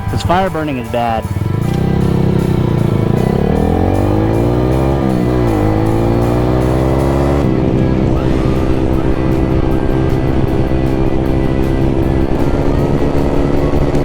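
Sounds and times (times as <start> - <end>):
background music with steady beat: 0.0 - 14.0
motorcycle engine accelerating: 0.0 - 14.0.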